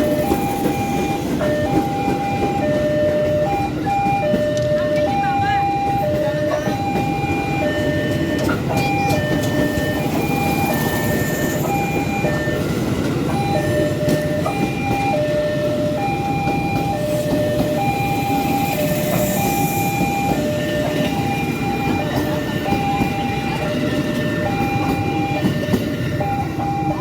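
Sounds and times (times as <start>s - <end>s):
level crossing two-tone alarm: 0.0s - 27.0s
train passing rumble: 0.0s - 27.0s.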